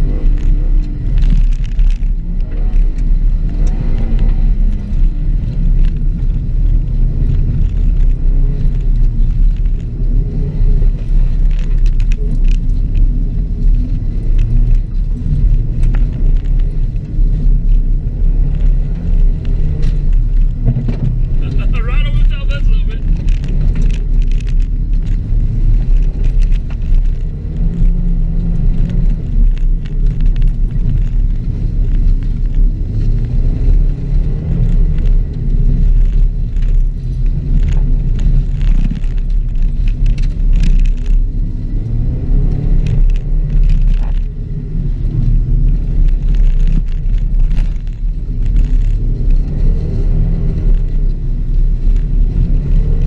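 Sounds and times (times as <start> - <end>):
car engine revving and shifting: 0.0 - 53.0
heavy rumble: 0.0 - 53.0
sharp clicks and knocks: 0.1 - 53.0.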